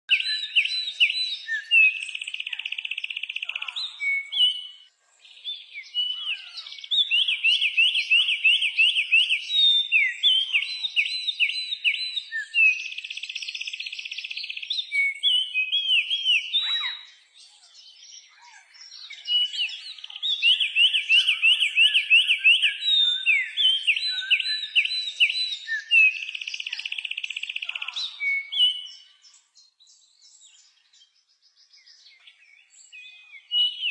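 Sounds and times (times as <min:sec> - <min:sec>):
songbird trilling and chirping: 0:00.1 - 0:33.9.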